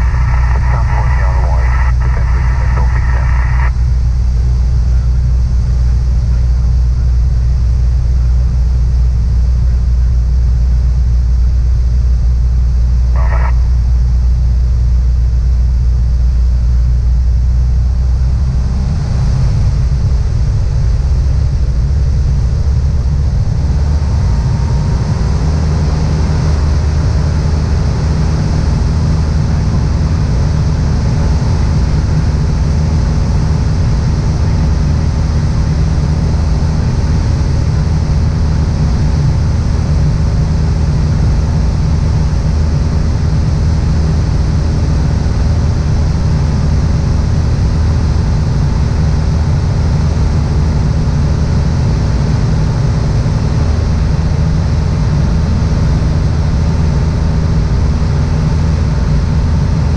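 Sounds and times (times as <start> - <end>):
light aircraft engine and propeller drone: 0.0 - 59.9.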